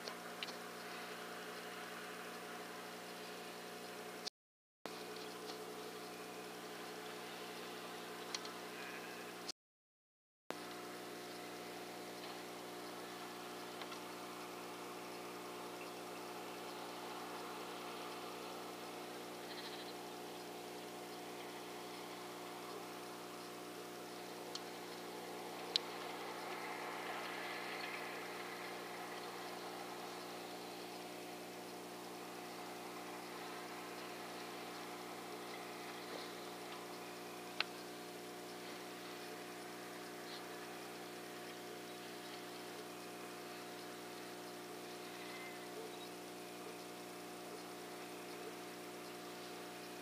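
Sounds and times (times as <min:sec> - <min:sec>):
electronic hum and hiss: 0:00.0 - 0:04.3, 0:04.9 - 0:09.5, 0:10.5 - 0:50.0.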